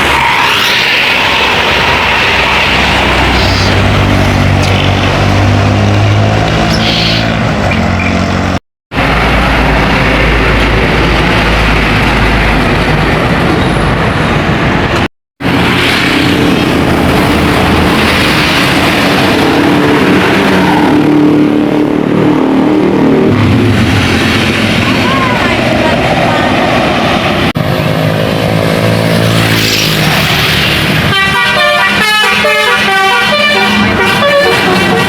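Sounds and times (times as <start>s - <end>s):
buses and road traffic passing: 0.0s - 35.0s.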